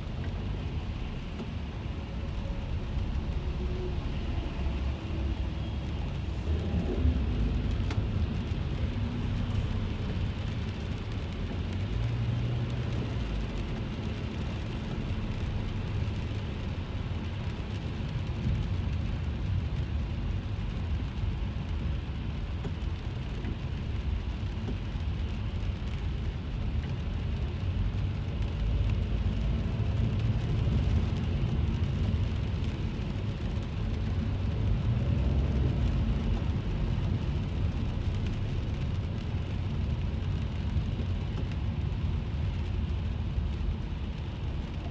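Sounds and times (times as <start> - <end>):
car tyres rumbling on wet road: 0.0 - 44.9
rain hissing on car: 0.0 - 44.9.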